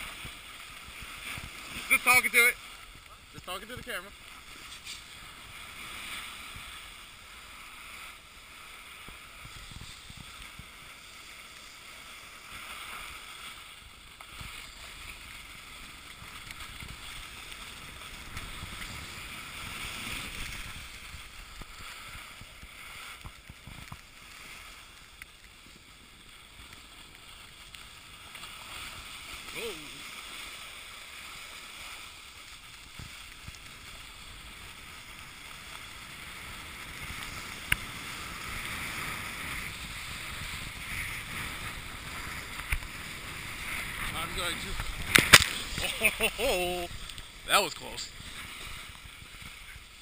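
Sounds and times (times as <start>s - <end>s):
wind rumbling on microphone: 0.0s - 30.0s, 32.0s - 50.0s
skis sliding on packed snow: 0.0s - 50.0s.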